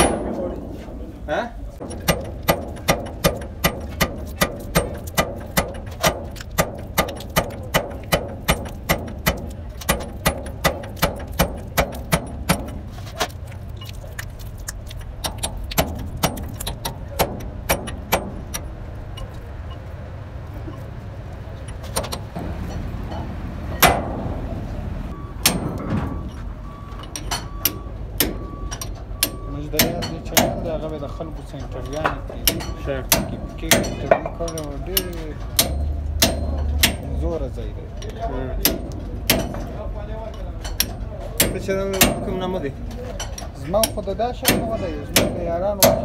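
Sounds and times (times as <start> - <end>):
hammer striking metal: 0.0 - 1.0, 1.8 - 12.9, 15.2 - 19.3, 21.7 - 37.5, 38.6 - 46.0.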